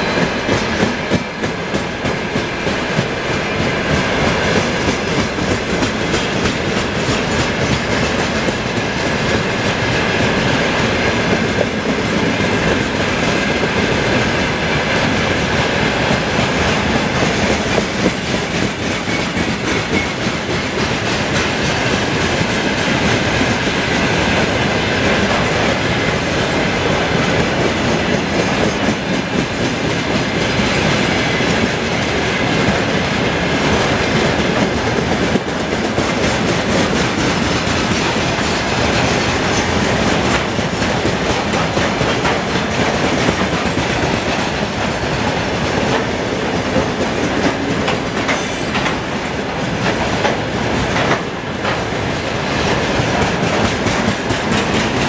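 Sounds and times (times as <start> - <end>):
freight train rumble: 0.0 - 55.0.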